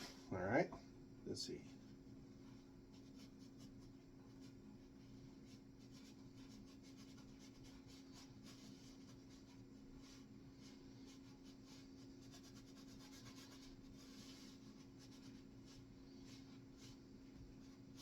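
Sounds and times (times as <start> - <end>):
steady low hum: 0.0 - 18.0
paintbrush scrubbing canvas: 1.8 - 18.0.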